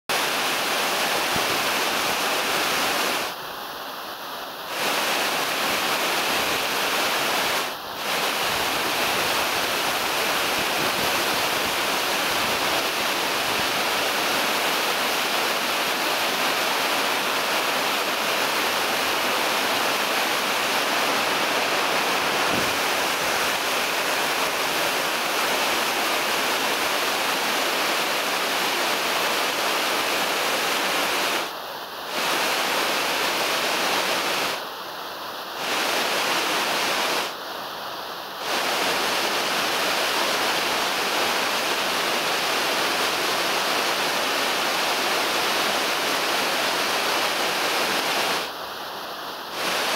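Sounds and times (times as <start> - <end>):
waterfall rushing on rock: 0.1 - 49.9.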